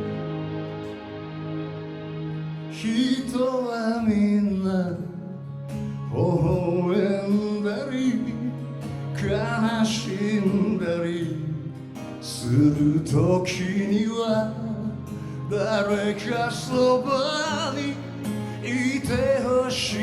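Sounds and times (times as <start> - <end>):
sustained backing chords: 0.0 - 20.0.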